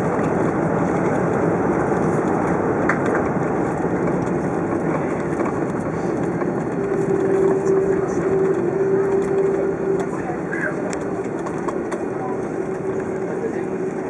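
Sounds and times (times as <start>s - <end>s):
airplane cabin engine and airflow noise: 0.0s - 14.0s.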